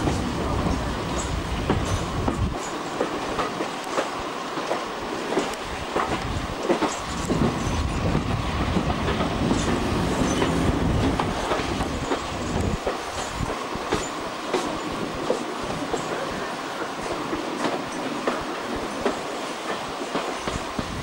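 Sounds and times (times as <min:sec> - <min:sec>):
train coaches rumbling: 0:00.0 - 0:21.0
wheels clicking over rail joints: 0:00.0 - 0:21.0.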